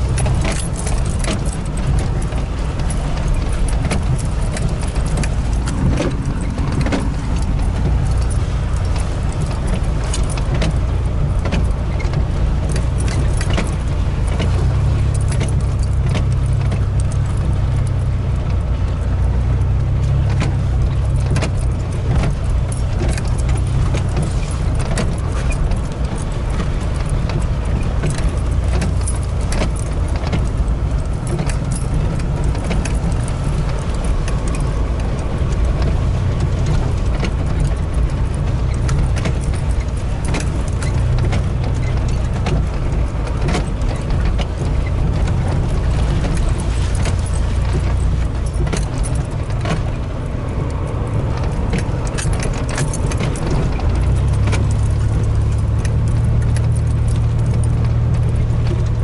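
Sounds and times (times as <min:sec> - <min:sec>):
cab clinks and rattles: 0:00.0 - 0:59.0
truck engine and tyres rumbling: 0:00.0 - 0:59.0.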